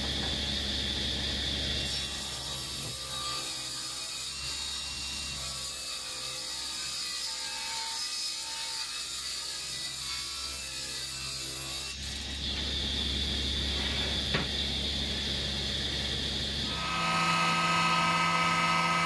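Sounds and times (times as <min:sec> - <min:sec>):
table saw cutting wood: 0:00.0 - 0:19.0.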